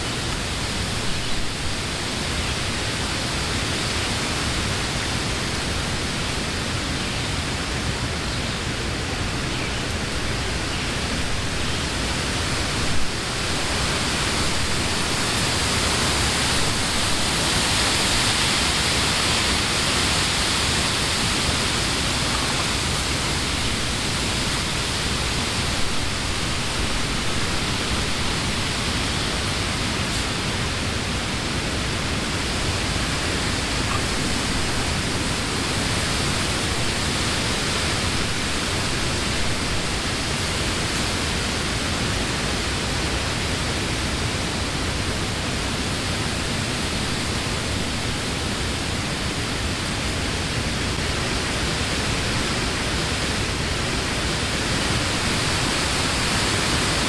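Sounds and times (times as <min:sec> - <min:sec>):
wind rushing through leaves: 0:00.0 - 0:57.0.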